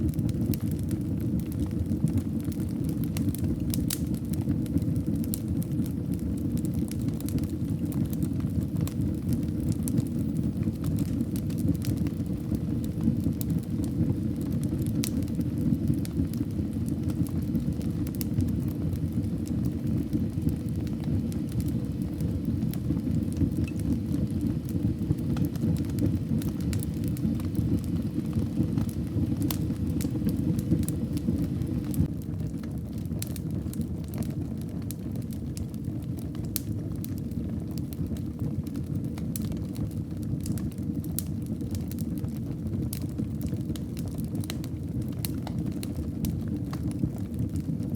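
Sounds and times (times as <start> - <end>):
fire crackling and popping: 0.0 - 47.9
fire rumbling: 0.0 - 47.9.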